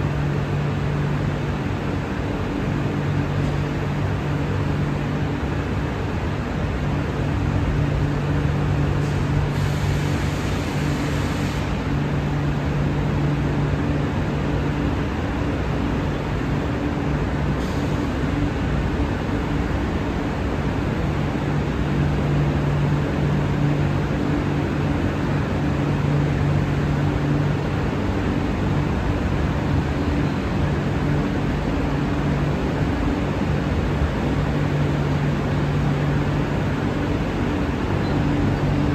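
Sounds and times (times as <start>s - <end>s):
train humming: 0.0s - 38.9s.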